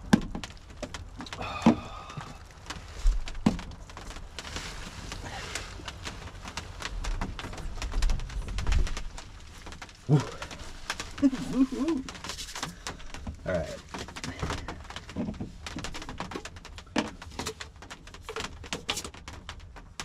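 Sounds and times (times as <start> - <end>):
clothing rustling: 0.5 - 20.0.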